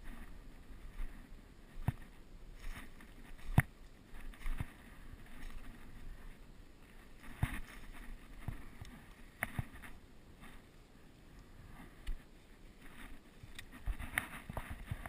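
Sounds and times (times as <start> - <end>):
person rustling through brush: 0.0 - 15.0.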